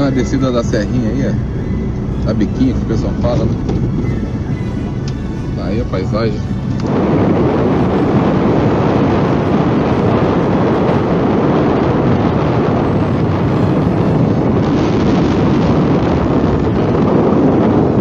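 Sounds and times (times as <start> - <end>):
road noise: 0.0 - 18.0
vehicle engine: 0.0 - 18.0
wind rushing over microphone: 0.0 - 18.0.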